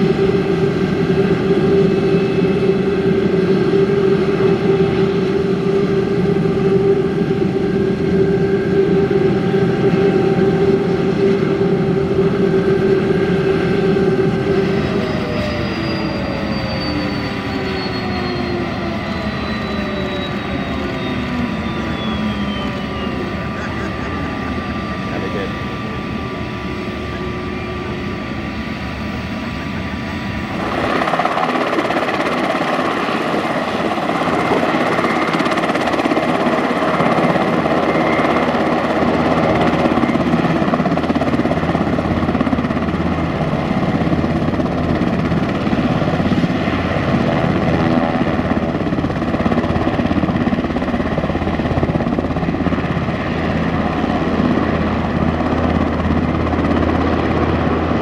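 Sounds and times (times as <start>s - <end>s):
helicopter rotor rumble: 0.0s - 58.0s
helicopter turbine whine: 0.0s - 58.0s.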